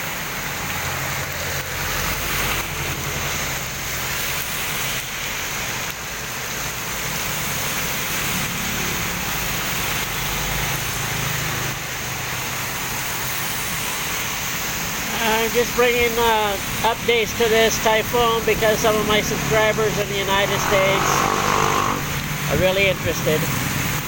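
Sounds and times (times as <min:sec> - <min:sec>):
heavy rain on surfaces: 0:00.0 - 0:24.0.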